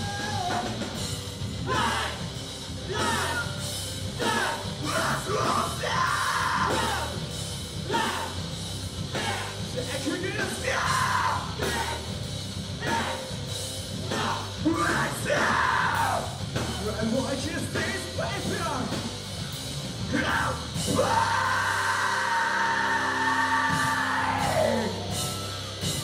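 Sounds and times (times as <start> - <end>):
sung vocals: 0.0 - 19.2, 20.0 - 25.4
live rock band: 0.0 - 26.0.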